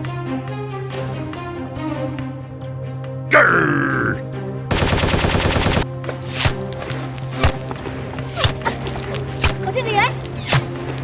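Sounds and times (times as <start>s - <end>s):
low drone music: 0.0s - 11.0s.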